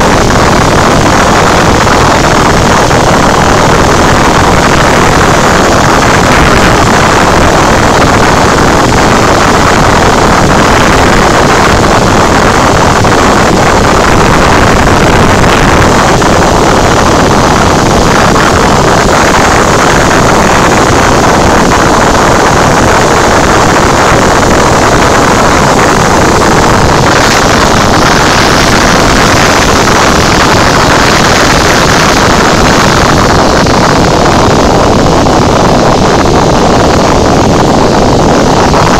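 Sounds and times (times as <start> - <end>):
airplane engine and propeller: 0.0 - 38.9
loud wind rush: 0.0 - 38.9.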